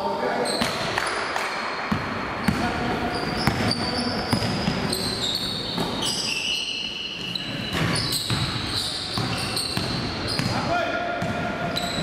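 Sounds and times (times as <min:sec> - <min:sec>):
sneaker squeaks: 0:00.3 - 0:12.0.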